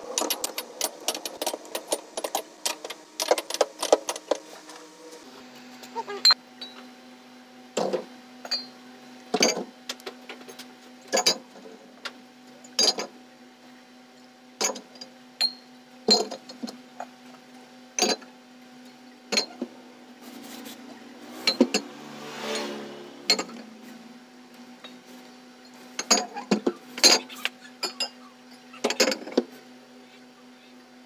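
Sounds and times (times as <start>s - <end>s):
refrigerator low hum: 0.0s - 31.0s.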